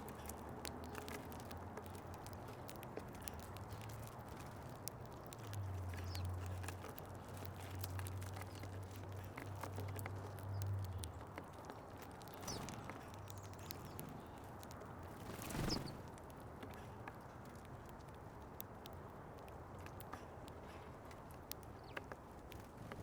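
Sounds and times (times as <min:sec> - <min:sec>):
birds pecking and hopping: 0:00.0 - 0:23.0.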